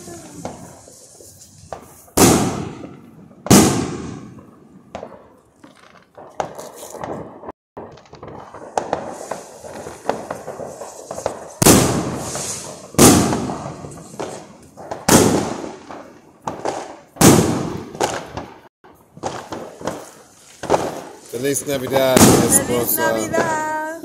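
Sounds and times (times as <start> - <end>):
loud firework bangs echoing: 0.0 - 5.4, 6.2 - 24.0
firecracker pops and crackles: 0.0 - 24.0.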